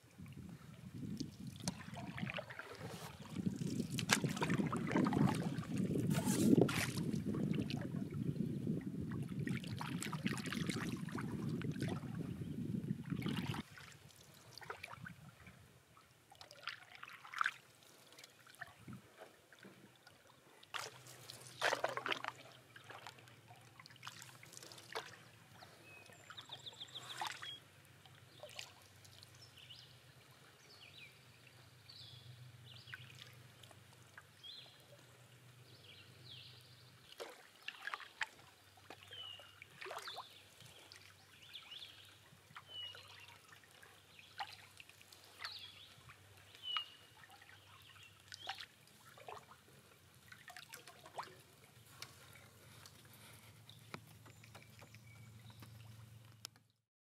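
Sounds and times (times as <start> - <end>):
soft paddle splashes: 0.2 - 12.4, 13.0 - 15.6, 16.3 - 30.5, 37.0 - 56.2
water trickling off paddle blade: 0.2 - 15.6, 16.3 - 30.4, 32.6 - 56.7.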